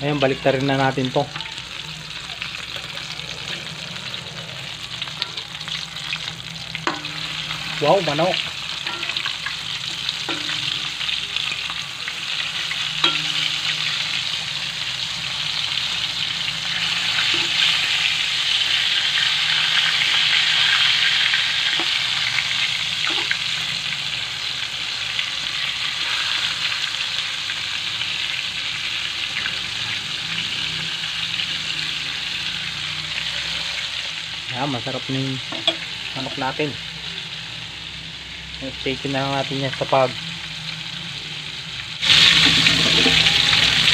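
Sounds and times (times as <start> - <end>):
chicken frying in hot oil: 0.0 - 43.9.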